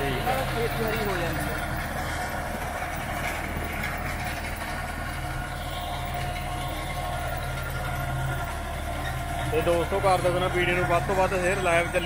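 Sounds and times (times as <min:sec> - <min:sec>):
rotor churning through stubble: 0:00.0 - 0:12.0
tractor diesel engine running: 0:00.0 - 0:12.0.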